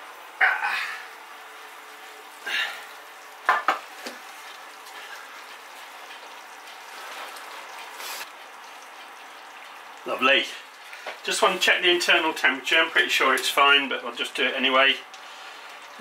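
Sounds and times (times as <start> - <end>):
fat sizzling in roasting tray: 0.0 - 16.0.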